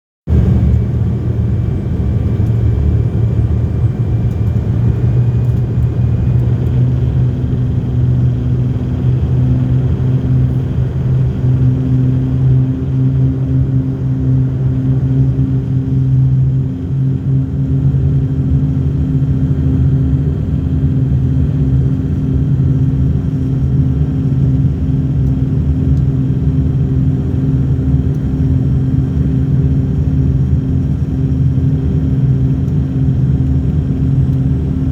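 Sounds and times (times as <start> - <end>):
airliner engines droning: 0.3 - 34.9.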